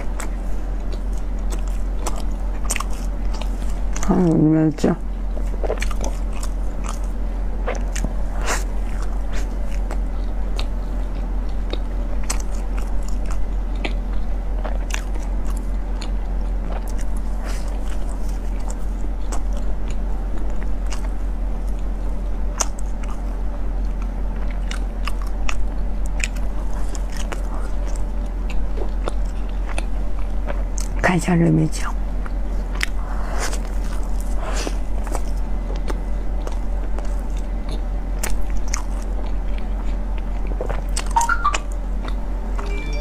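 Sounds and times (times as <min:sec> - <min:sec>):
biting and chewing bread: 0:00.0 - 0:04.3, 0:05.0 - 0:31.0, 0:32.1 - 0:42.3
steady low hum: 0:00.0 - 0:43.0.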